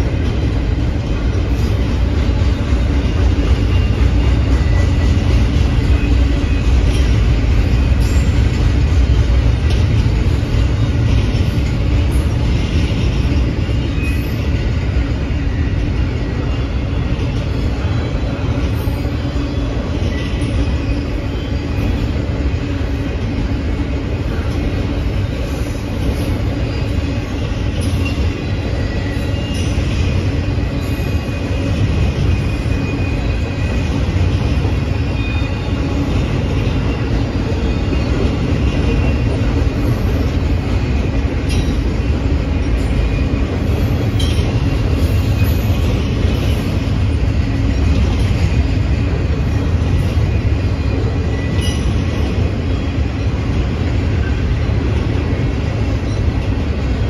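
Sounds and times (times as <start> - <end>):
sharp clicks from train: 0.0 - 57.0
train wheels rumbling on rails: 0.0 - 57.0.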